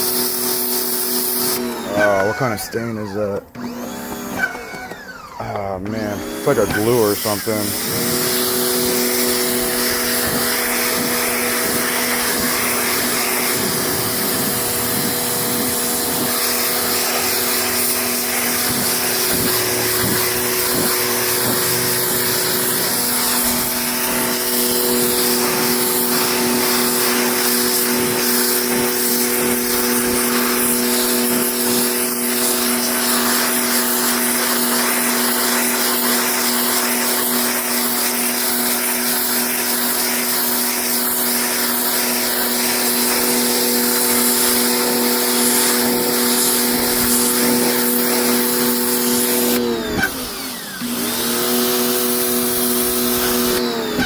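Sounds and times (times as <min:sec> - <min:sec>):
pressure washer motor hum: 0:00.0 - 0:54.0
water jet hissing on fabric: 0:06.5 - 0:53.6.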